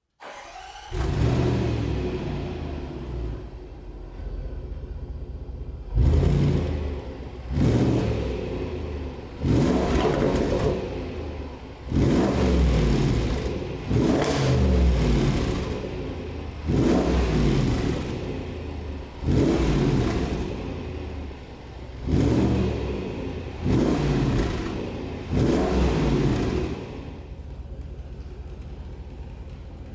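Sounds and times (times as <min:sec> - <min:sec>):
car engine idling and revving: 0:00.2 - 0:29.9.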